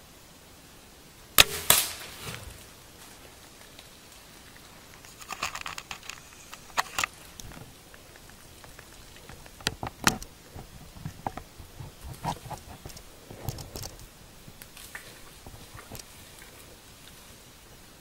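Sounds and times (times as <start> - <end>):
twigs snapping and crackling: 1.4 - 16.6.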